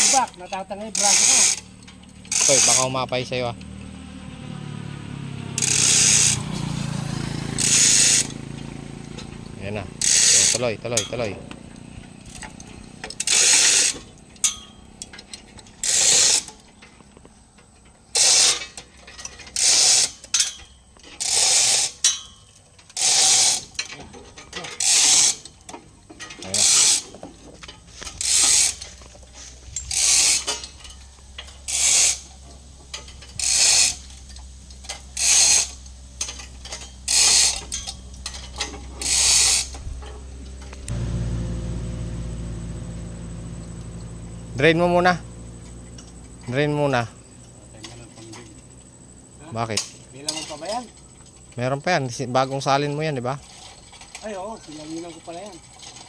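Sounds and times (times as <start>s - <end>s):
chain hoist ratcheting: 0.0s - 4.0s, 5.6s - 16.8s, 17.7s - 56.0s.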